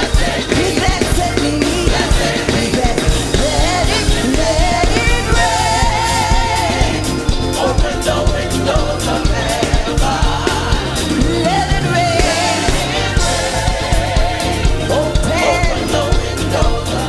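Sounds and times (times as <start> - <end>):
band with drums: 0.0 - 17.0
people singing gospel: 0.0 - 17.0.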